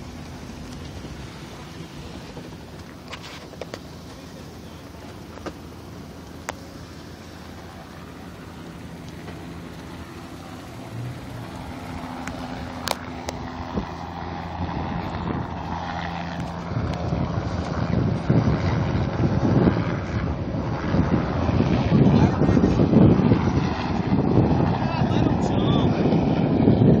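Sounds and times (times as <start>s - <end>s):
low engine hum: 0.0s - 27.0s
wind buffeting microphone: 0.0s - 27.0s.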